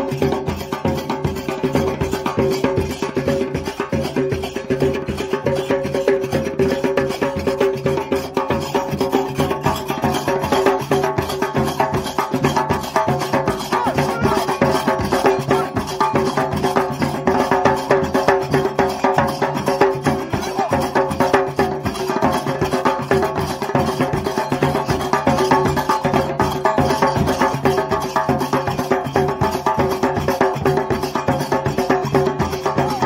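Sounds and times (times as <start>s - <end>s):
group drumming fast rhythm: 0.0s - 33.0s.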